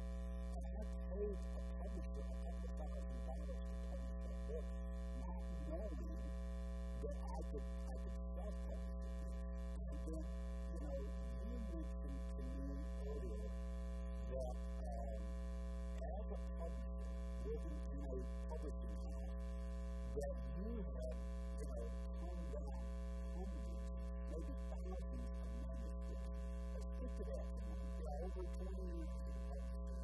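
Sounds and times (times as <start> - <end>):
electrical mains hum: 0.0 - 30.0
man talking faintly: 0.5 - 6.3, 7.0 - 8.9, 9.8 - 13.6, 16.0 - 19.3, 20.1 - 30.0.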